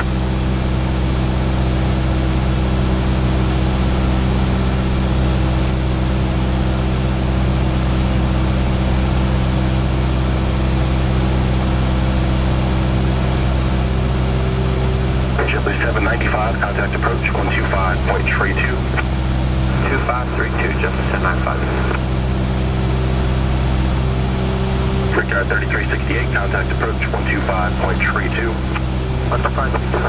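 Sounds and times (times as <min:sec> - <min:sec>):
propeller plane droning in flight: 0:00.0 - 0:30.0.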